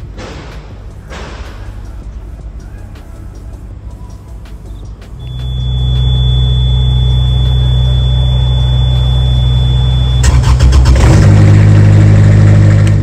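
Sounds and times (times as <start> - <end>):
refrigeration unit diesel engine: 0.0 - 13.0.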